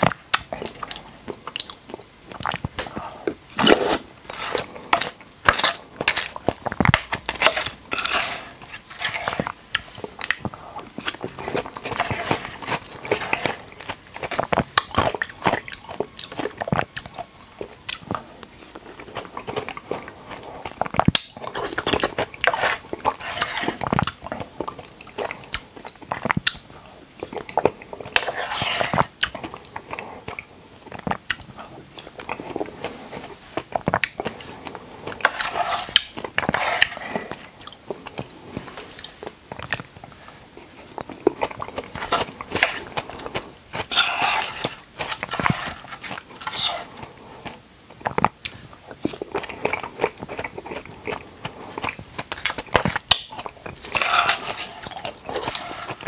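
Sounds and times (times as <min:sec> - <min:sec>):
biting and chewing fruit: 0:03.6 - 0:56.0.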